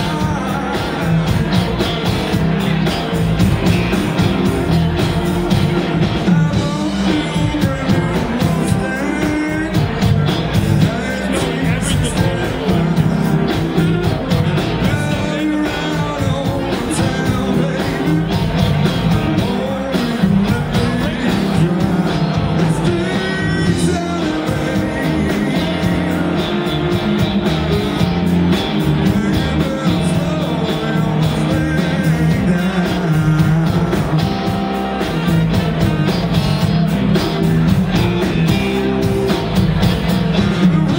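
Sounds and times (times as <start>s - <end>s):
man singing: 0.0s - 3.0s, 3.6s - 40.9s
drums: 0.0s - 40.9s
electric guitar: 0.0s - 40.9s
keyboards: 0.0s - 40.9s.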